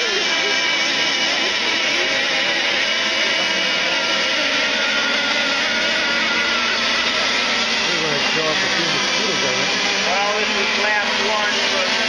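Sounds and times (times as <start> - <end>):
model boat engines whining: 0.0 - 12.0.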